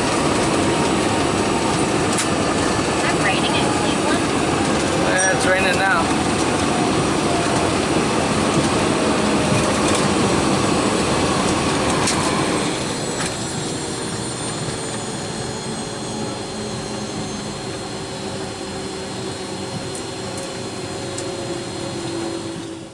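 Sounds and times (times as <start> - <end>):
faint jet whine: 0.0 - 22.9
jet engines rushing: 0.0 - 22.9.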